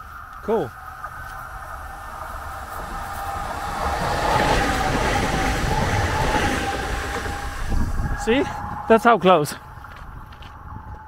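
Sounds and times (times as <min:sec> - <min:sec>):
high whine: 0:00.0 - 0:11.0
tram passing with rumble: 0:00.0 - 0:11.0.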